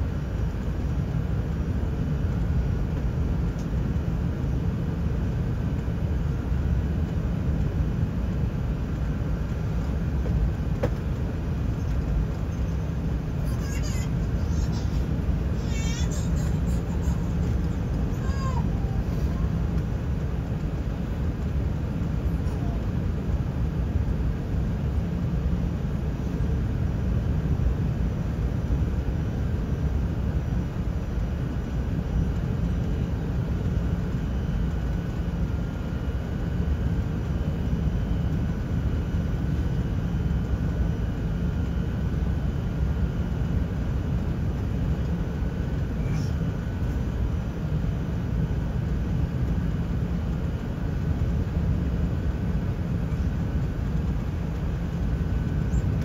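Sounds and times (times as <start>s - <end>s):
airplane cabin rumble: 0.0s - 56.0s
faint steady whining tones: 0.0s - 56.0s.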